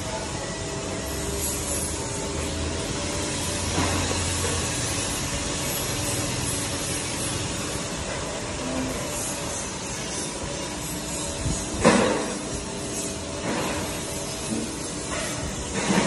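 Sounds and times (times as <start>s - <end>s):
cooling unit hum: 0.0s - 16.0s
laser welder hiss: 1.1s - 16.0s.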